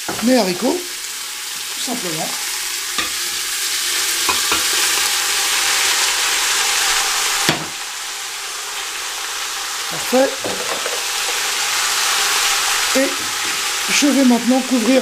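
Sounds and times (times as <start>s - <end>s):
meat and onions sizzling: 0.0s - 15.0s.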